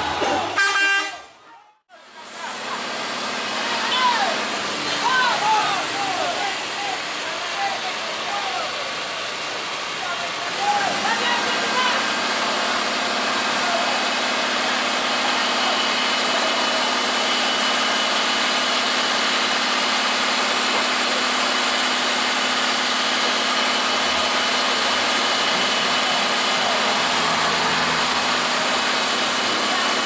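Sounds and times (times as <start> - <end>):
truck engine running: 0.0 - 0.9, 2.0 - 30.0.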